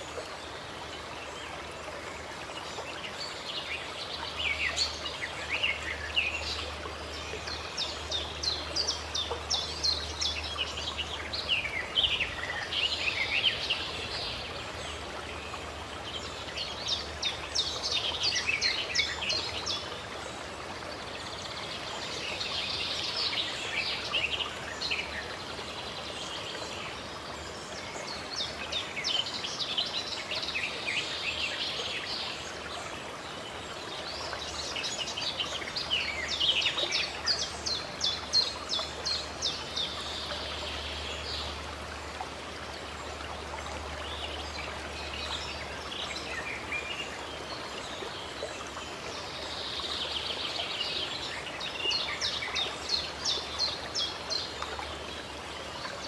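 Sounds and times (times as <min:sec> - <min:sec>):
running water hiss: 0:00.0 - 0:56.0.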